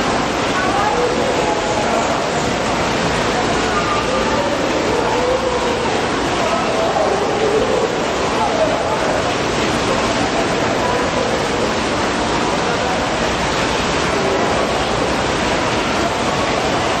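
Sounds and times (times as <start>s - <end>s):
faint voices: 0.0s - 17.0s
running water: 0.0s - 17.0s.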